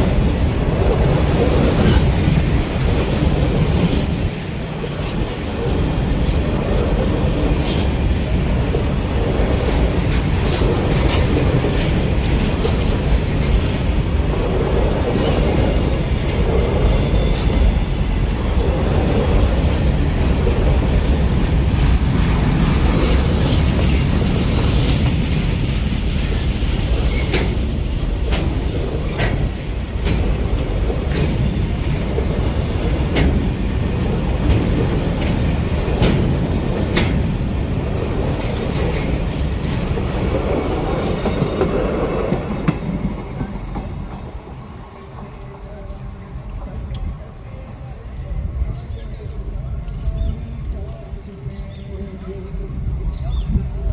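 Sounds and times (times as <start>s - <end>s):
wheels clacking over rail joints: 0.0s - 45.9s
train wheels rumbling on rails: 0.0s - 53.9s.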